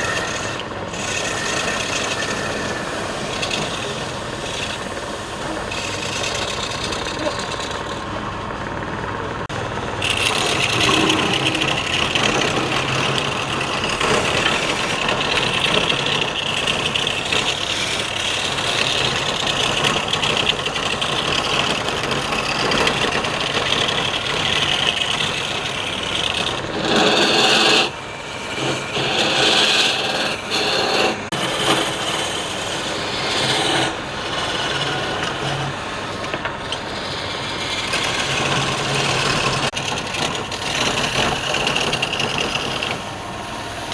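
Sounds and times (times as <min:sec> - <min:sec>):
tool scraping spinning wood: 0:00.0 - 0:43.9
wood lathe hum: 0:00.0 - 0:43.9.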